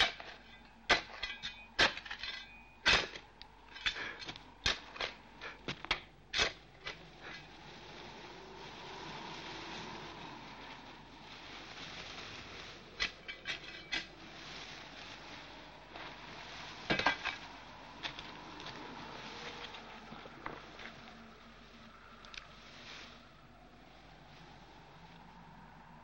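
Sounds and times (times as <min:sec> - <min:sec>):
hand tool digging dry earth: 0:00.0 - 0:23.3
wind blowing: 0:04.4 - 0:26.0.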